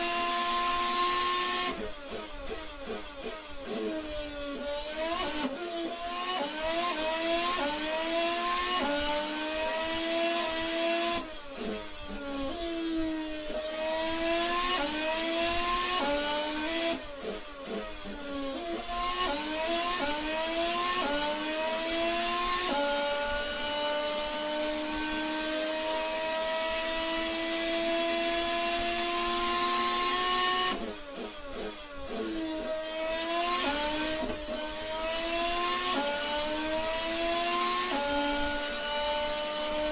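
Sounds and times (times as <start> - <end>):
racing car engine accelerating: 0.0 - 39.9.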